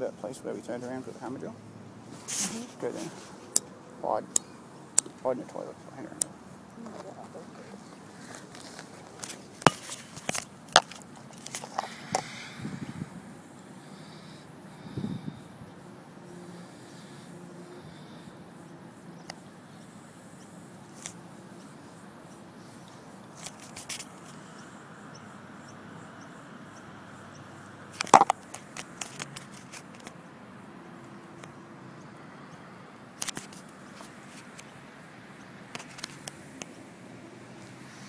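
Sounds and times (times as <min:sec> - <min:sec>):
steady low hiss: 0:00.0 - 0:38.0.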